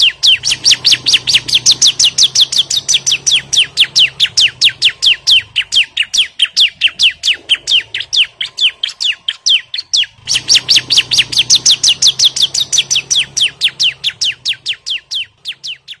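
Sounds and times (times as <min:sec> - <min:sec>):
bird singing sharp chirps: 0:00.0 - 0:16.0.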